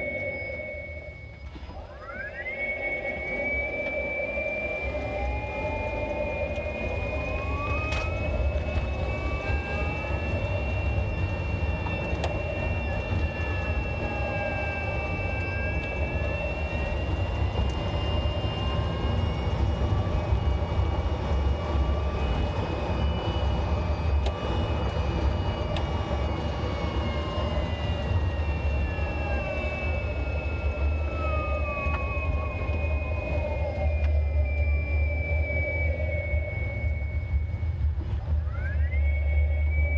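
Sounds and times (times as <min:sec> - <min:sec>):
electric motor whining: 0:00.0 - 0:39.9
low road rumble: 0:00.0 - 0:39.9.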